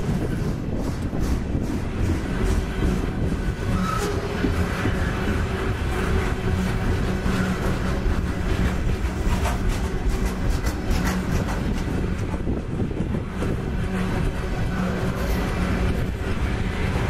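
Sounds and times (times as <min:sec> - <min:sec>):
steel wheels rumbling on rail: 0:00.0 - 0:17.0
wheels clicking over track joints: 0:00.0 - 0:17.0.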